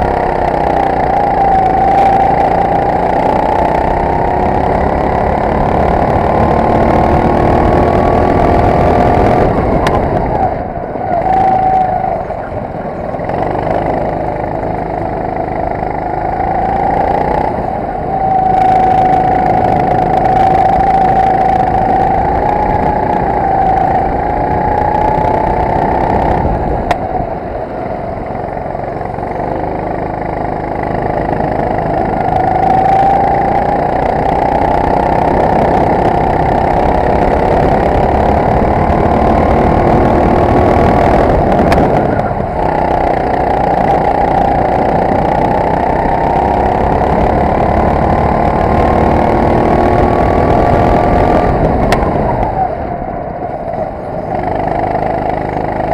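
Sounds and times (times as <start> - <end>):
racing kart engine: 0.0 - 55.9
steady rush of noise: 0.0 - 55.9.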